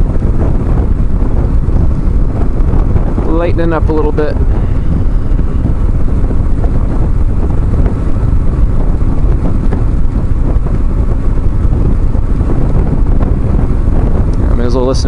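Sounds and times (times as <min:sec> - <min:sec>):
motorcycle running: 0:00.0 - 0:15.0
wind buffeting microphone: 0:00.0 - 0:15.0.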